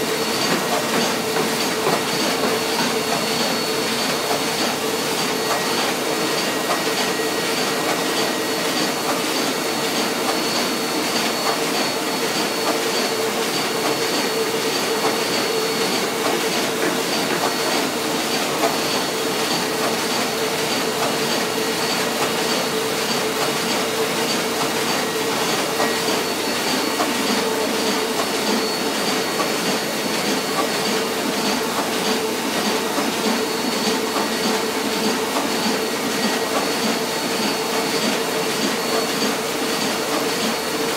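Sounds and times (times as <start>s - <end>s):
thin high whine: 0.0s - 39.8s
printing press clattering: 0.0s - 40.9s.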